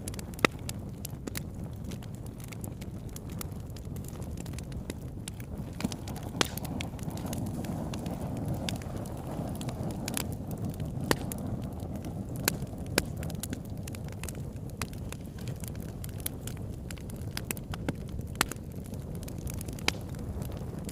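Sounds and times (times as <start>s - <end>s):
burning wood crackling and popping: 0.0s - 20.9s
campfire flames rushing: 0.0s - 20.9s.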